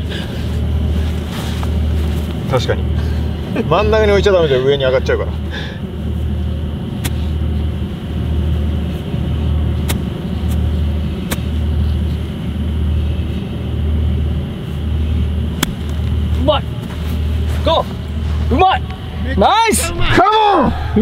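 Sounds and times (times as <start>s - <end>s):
pulsing low rumble: 0.0s - 21.0s.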